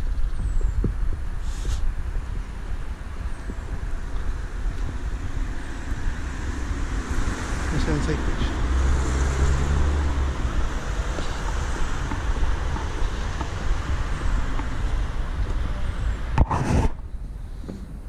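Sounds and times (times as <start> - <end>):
low engine hum: 0.0 - 18.0
road traffic passing: 0.0 - 18.0.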